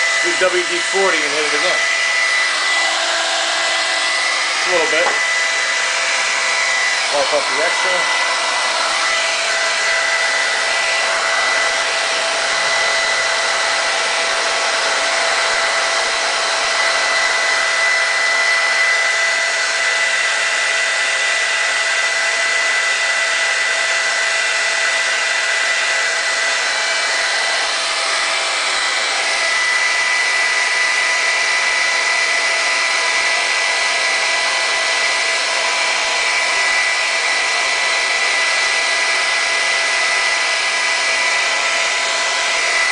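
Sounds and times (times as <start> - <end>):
hair dryer running: 0.0 - 42.9.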